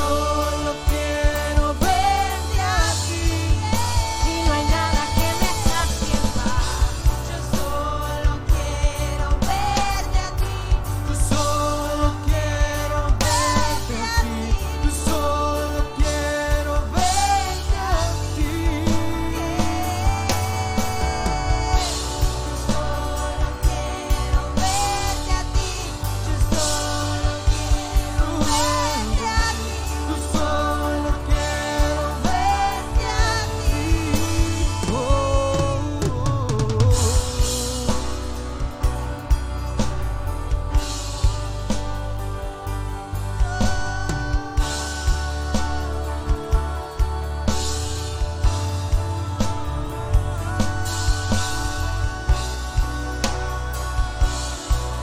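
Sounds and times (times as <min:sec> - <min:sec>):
drum kit beat: 0:00.0 - 0:55.0
sliding melody line: 0:00.0 - 0:55.0
sustained bass: 0:00.0 - 0:55.0.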